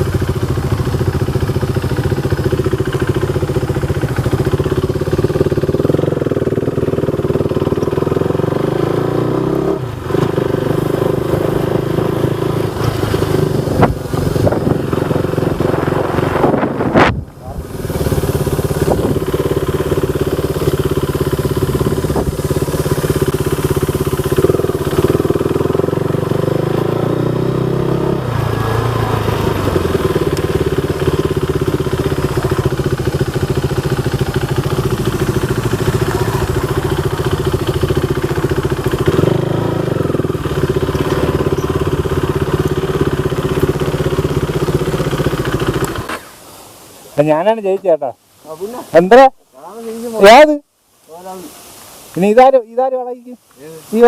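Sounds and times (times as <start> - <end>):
motorcycle engine running: 0.0 - 46.2.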